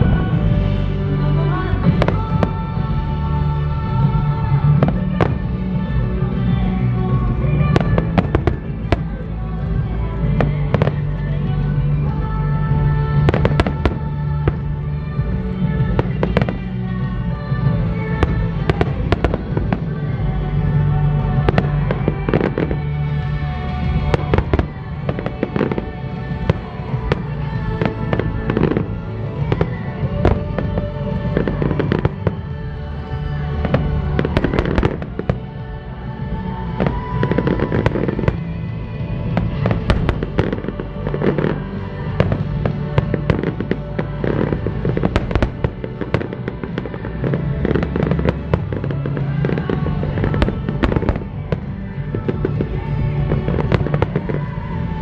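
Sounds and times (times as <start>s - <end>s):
fireworks bursting and crackling: 0.0s - 55.0s
pop song over loudspeakers: 0.0s - 55.0s.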